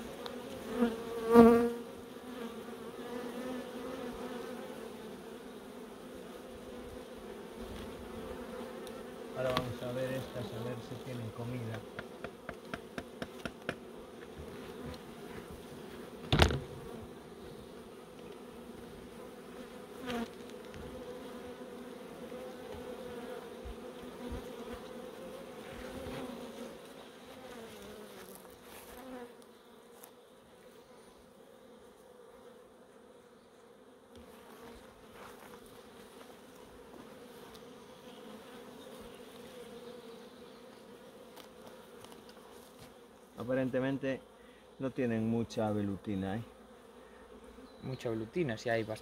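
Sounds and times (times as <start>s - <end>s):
honeybees buzzing: 0.0s - 49.0s.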